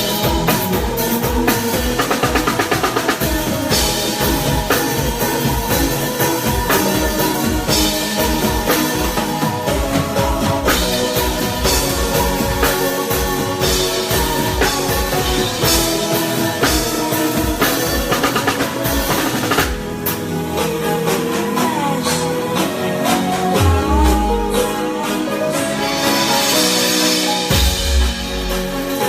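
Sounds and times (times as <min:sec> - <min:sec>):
live band music: 0:00.0 - 0:29.0.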